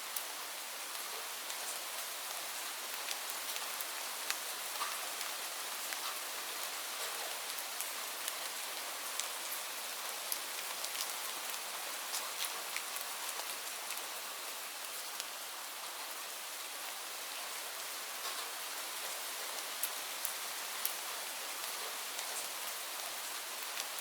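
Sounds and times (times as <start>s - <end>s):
raindrops ticking on a surface: 0.1s - 24.0s.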